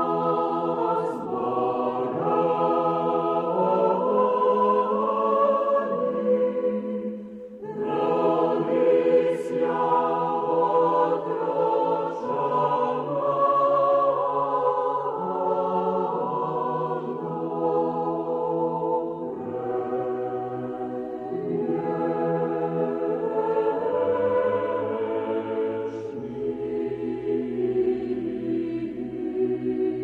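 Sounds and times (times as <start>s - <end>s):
choir singing a slow chant: 0.0s - 30.0s.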